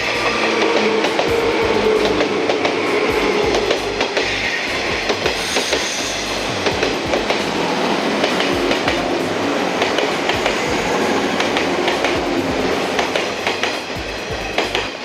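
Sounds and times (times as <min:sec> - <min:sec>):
electric train rumbling: 0:00.0 - 0:15.0
wheels clicking over rail joints: 0:00.0 - 0:15.0.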